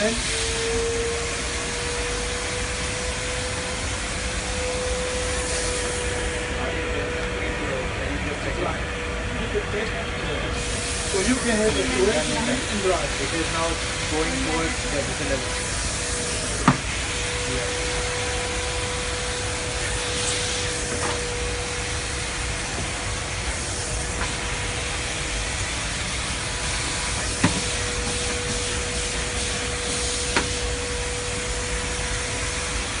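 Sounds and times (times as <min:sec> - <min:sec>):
steam vacuum cleaner running: 0:00.0 - 0:33.0.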